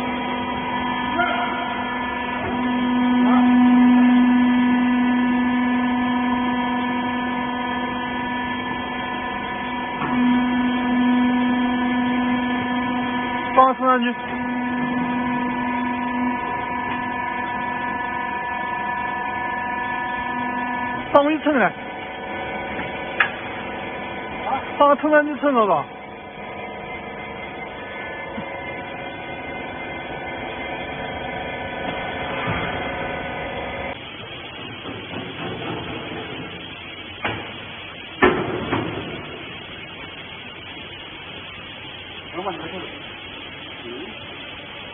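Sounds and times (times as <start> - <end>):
hydraulic power unit humming: 0.0 - 44.9.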